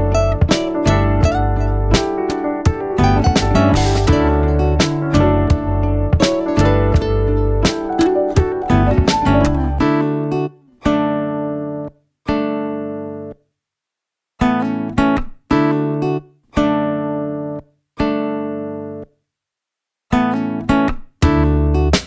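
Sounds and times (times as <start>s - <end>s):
acoustic guitar chords: 0.0s - 13.3s, 14.4s - 19.0s, 20.1s - 22.0s.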